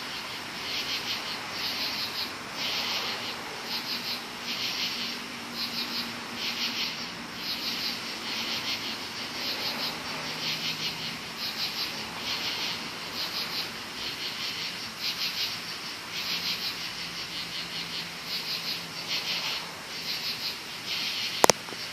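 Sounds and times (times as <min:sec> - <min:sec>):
crickets chirping: 0:00.0 - 0:21.9.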